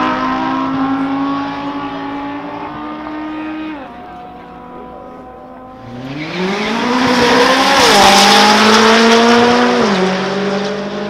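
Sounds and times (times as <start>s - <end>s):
cars accelerating past: 0.0s - 11.0s.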